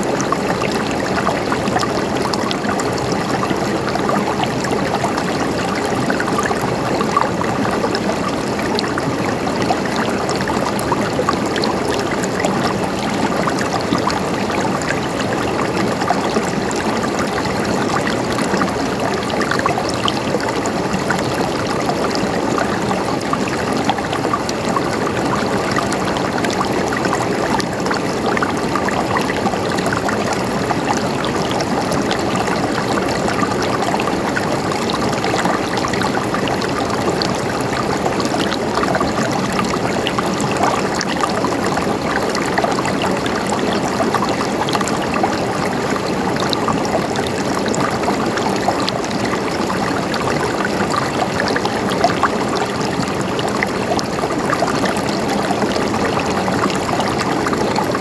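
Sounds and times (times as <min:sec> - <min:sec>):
water gurgling and babbling: 0:00.0 - 0:58.0.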